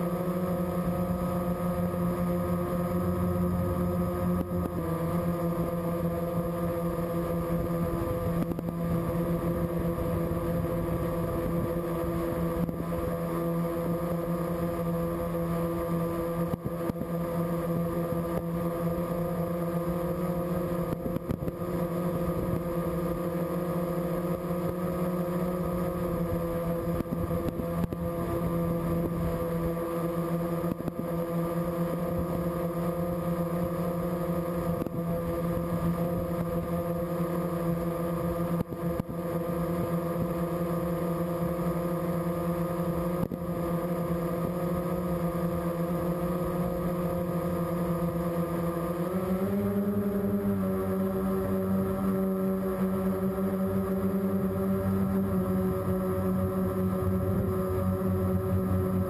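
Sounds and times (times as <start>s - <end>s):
drone motors buzzing: 0.0s - 59.0s.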